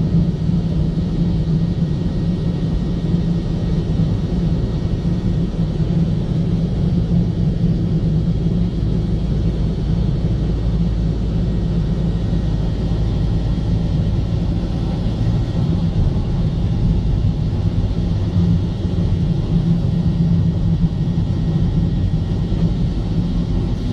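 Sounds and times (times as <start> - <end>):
car engine and tyre rumble: 0.0 - 23.9.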